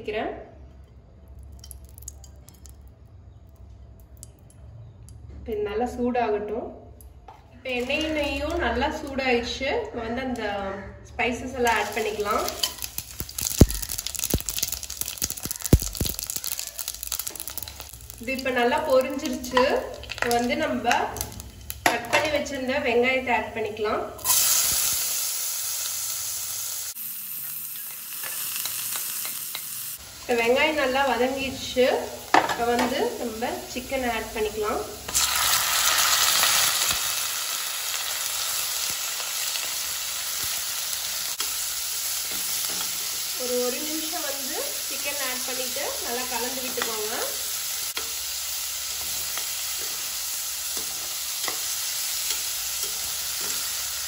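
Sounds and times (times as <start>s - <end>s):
onions sizzling in oil: 7.7s - 9.2s, 11.6s - 54.0s.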